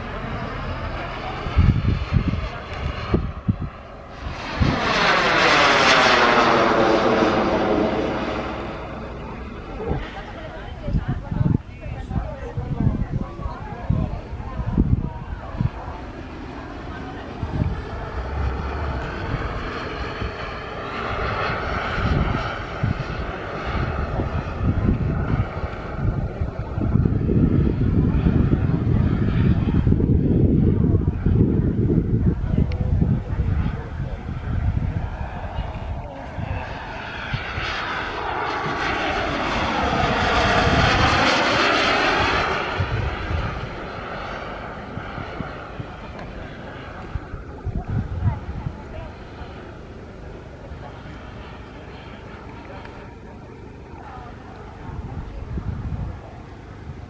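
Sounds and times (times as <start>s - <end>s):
jet turbine rushing whoosh: 0.0s - 48.9s
wind buffeting microphone: 0.0s - 57.0s.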